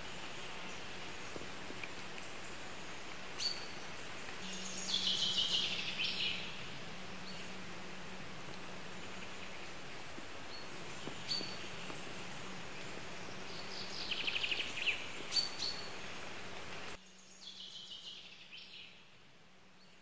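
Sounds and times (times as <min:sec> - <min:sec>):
songbird calls: 0:00.0 - 0:07.6, 0:08.4 - 0:19.0
outdoor background noise: 0:00.0 - 0:20.0.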